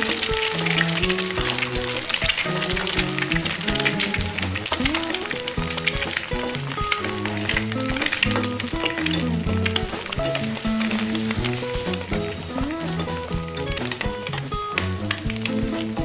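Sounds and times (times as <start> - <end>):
background music: 0.0 - 16.0
eggs sizzling in pan: 0.0 - 16.0
spatula stirring in pan: 0.0 - 16.0.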